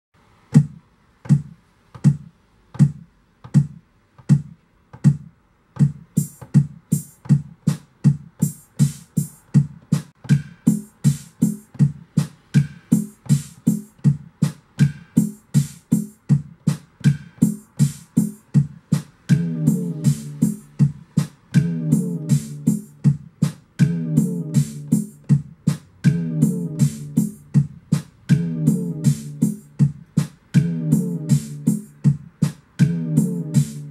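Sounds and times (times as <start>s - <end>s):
low kick drum: 0.6s - 33.9s
bright electronic drum hits: 5.1s - 33.9s.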